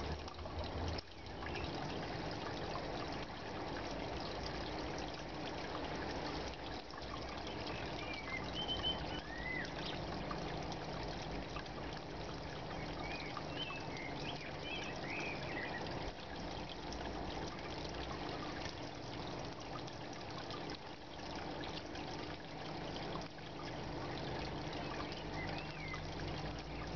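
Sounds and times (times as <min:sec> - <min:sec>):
low constant hum: 0:00.0 - 0:26.9
water pouring into fish tank: 0:00.0 - 0:26.9.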